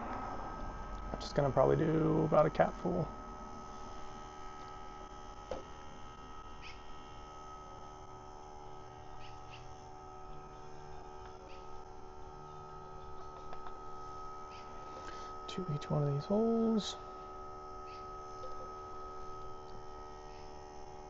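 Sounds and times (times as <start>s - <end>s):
electrical hum: 0.0s - 21.0s
high whine: 0.0s - 21.0s.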